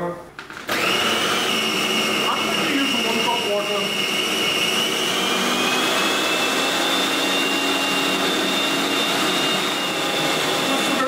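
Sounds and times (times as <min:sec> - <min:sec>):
food processor motor whining: 0:00.6 - 0:11.0.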